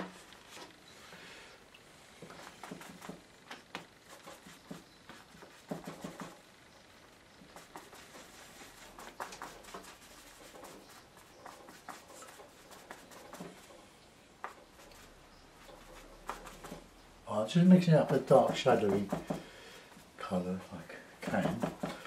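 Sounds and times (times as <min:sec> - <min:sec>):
paint brush tapping and scraping: 0:01.7 - 0:06.5, 0:07.3 - 0:22.0.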